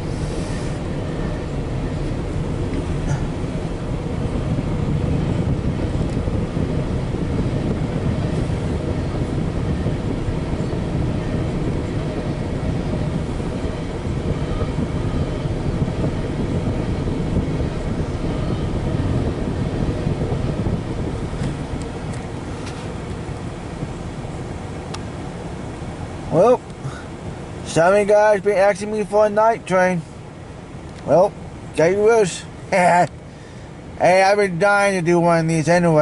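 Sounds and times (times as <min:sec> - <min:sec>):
freight train wheels rumbling on rails: 0:00.0 - 0:34.6.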